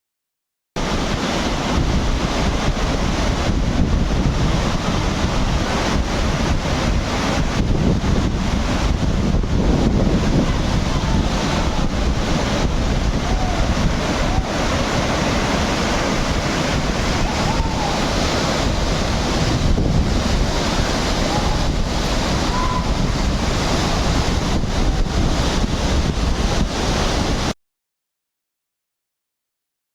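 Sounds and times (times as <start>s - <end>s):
rushing river whitewater: 0.8s - 27.6s
wind buffeting microphone: 0.8s - 27.6s.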